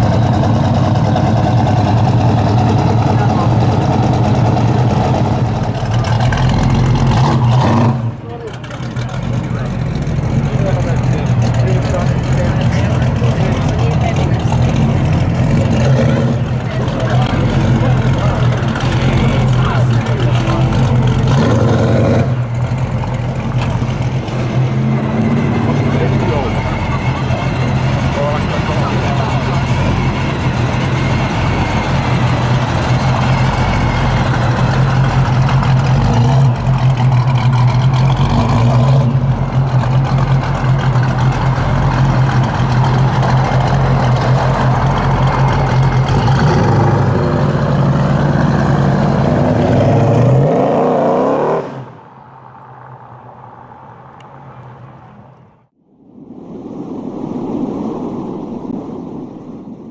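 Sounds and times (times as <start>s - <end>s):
car engine revving: 0.0s - 55.8s.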